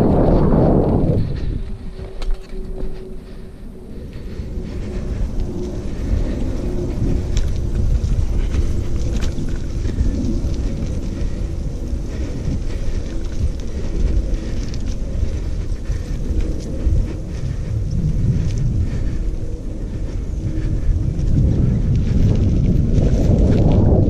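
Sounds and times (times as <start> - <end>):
dry leaves and grit crackling: 0.0 - 24.0
wind rumble on microphone: 0.0 - 24.0.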